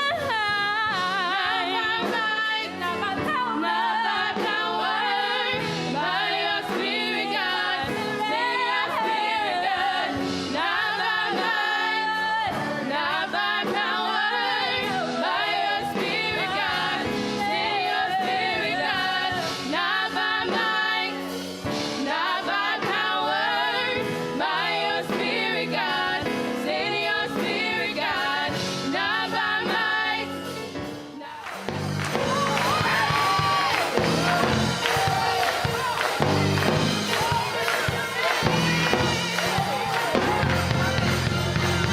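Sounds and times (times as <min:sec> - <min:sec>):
choir singing gospel: 0:00.0 - 0:41.9
instrumental accompaniment: 0:00.1 - 0:41.9.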